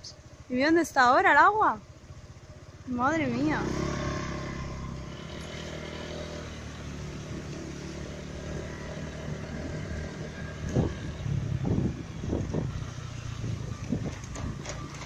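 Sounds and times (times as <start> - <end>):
small motorbike engine running: 0.0 - 15.0.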